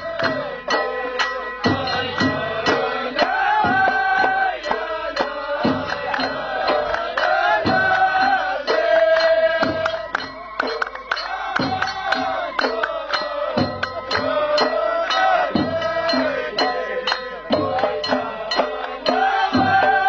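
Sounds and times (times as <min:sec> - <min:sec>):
fast drum beat: 0:00.0 - 0:20.0
group chanting in unison: 0:00.0 - 0:20.0.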